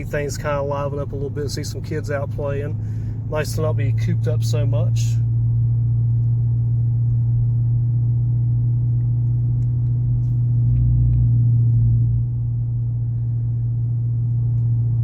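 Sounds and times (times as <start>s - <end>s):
low exhaust drone inside car cabin: 0.0s - 15.0s.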